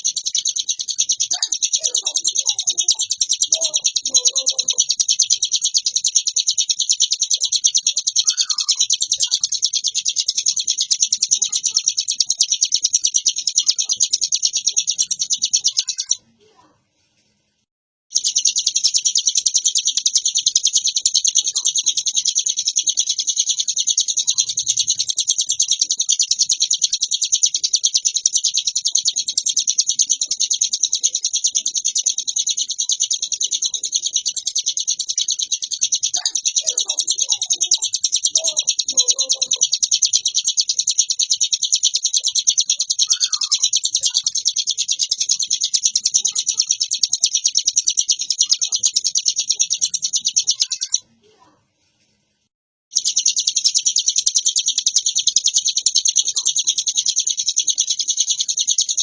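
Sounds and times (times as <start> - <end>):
bird chattering song: 0.0 - 16.6, 18.1 - 51.4, 52.9 - 59.0.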